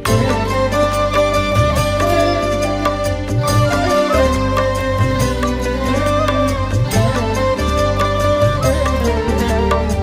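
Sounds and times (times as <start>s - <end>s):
instrumental music: 0.0s - 10.0s
low bass line: 0.0s - 10.0s.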